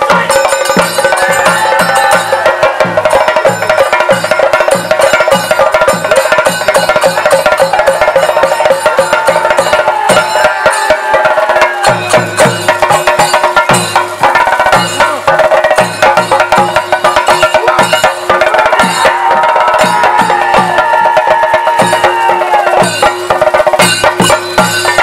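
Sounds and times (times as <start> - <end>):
cymbals: 0.0 - 25.0
drums beaten fast: 0.0 - 25.0
reed pipe melody: 0.0 - 25.0.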